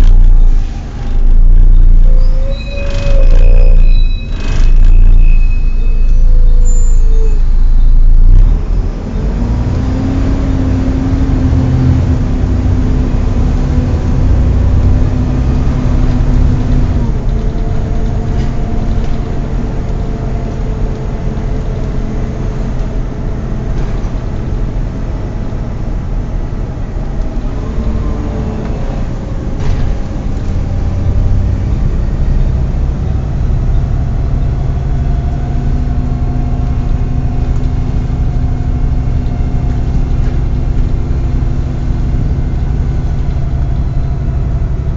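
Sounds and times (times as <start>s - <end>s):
bus engine rumble: 0.0s - 44.9s.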